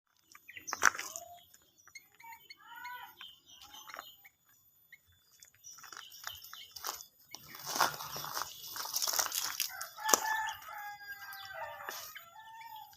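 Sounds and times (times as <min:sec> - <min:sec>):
bird chirping and warbling: 0:00.1 - 0:12.9.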